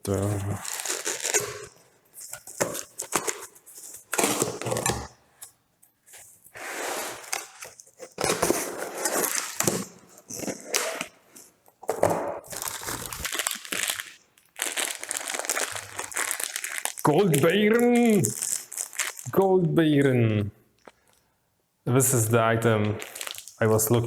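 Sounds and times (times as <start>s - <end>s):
packaging crinkling and rustling: 0.1s - 5.2s, 6.2s - 19.4s, 23.0s - 24.0s.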